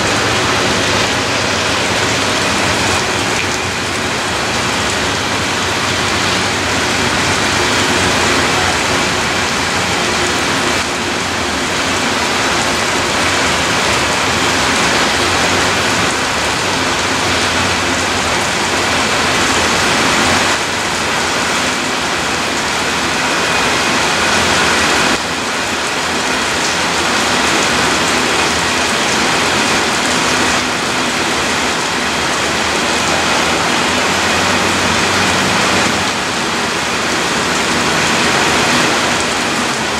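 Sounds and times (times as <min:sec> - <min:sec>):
train wheels rolling on rail: 0:00.0 - 0:39.9.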